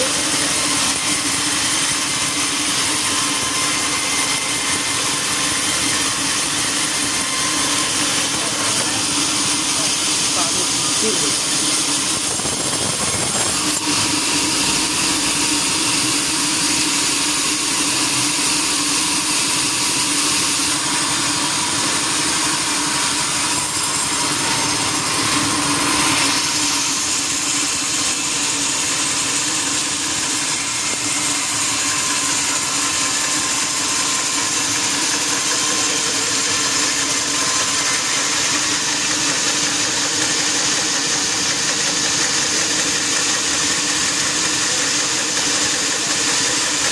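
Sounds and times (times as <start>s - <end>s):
sawmill motor drone: 0.0s - 46.9s.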